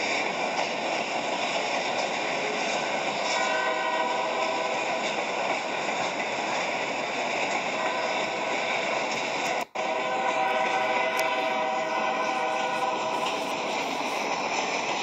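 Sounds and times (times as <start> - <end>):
freight train cars rumbling past: 0.0 - 15.0.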